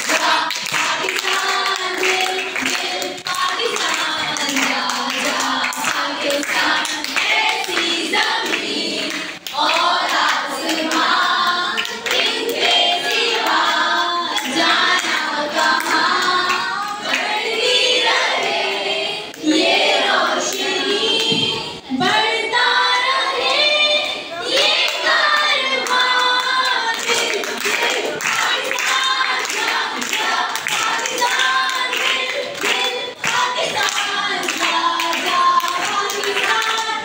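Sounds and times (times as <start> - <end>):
children clapping along: 0.0 - 21.5, 24.0 - 37.0
girls singing: 0.0 - 37.0.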